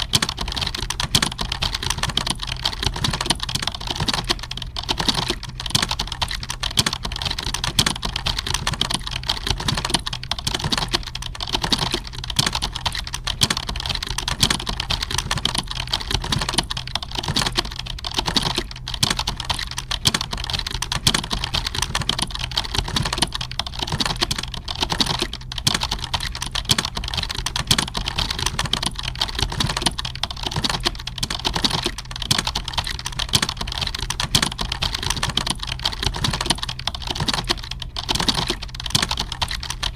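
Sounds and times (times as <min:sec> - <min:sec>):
fast typing on computer keyboards: 0:00.0 - 0:39.9.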